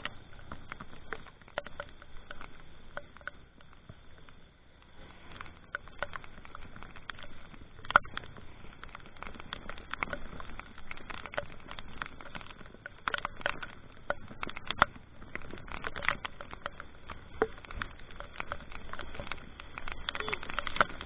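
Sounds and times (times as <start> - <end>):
low steady rumble: 0.0 - 21.0
raindrops tapping: 0.0 - 21.0.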